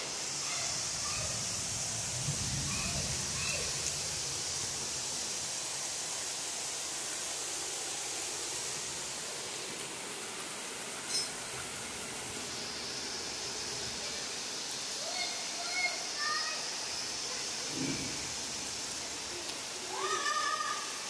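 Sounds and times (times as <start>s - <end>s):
heavy rain on foliage: 0.0s - 21.0s.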